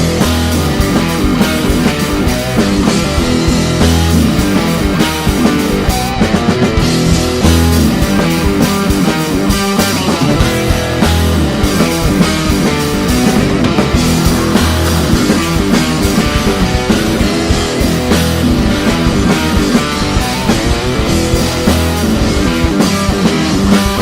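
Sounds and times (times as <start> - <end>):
bass guitar: 0.0 - 24.0
drum kit: 0.0 - 24.0
electric guitars: 0.0 - 24.0.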